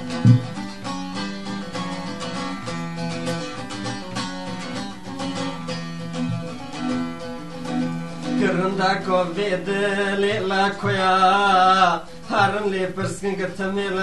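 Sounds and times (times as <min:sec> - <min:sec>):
plucked string instrument runs: 0:00.0 - 0:13.8.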